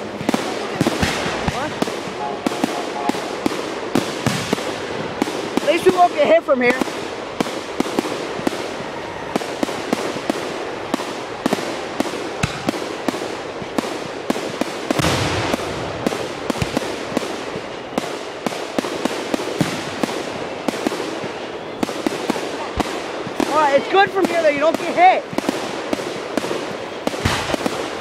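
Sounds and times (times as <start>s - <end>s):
fireworks bangs and pops: 0.0s - 28.0s
fireworks crackling: 0.0s - 28.0s.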